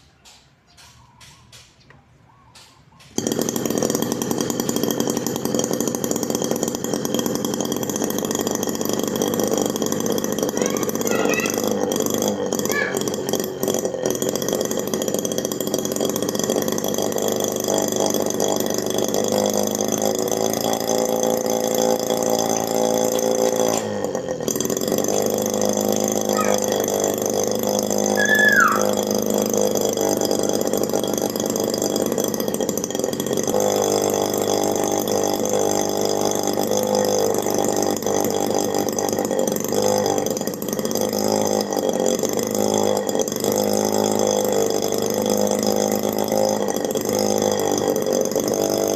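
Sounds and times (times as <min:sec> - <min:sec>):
miniature two-stroke engine running: 0:02.6 - 0:48.9.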